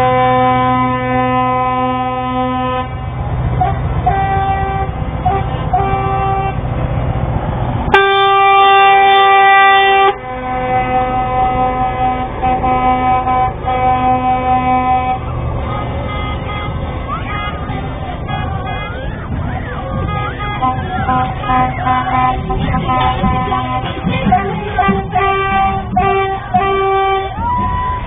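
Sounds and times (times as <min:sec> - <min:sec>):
truck air horn blasts: 0:00.0 - 0:06.7, 0:07.9 - 0:28.0
truck engines rumbling: 0:00.0 - 0:28.0.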